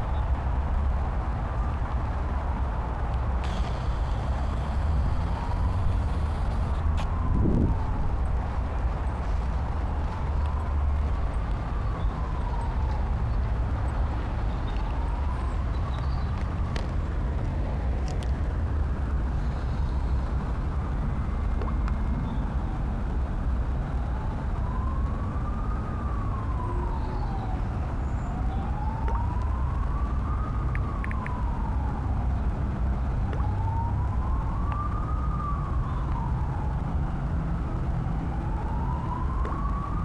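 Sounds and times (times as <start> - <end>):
emergency vehicle siren wailing: 0.0 - 40.0
steady low rumble: 0.0 - 40.0.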